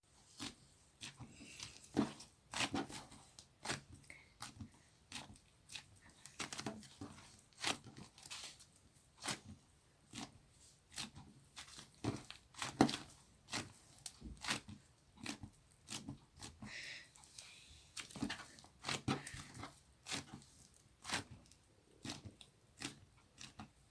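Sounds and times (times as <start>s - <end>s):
clay squishing and tearing: 0.1s - 23.9s.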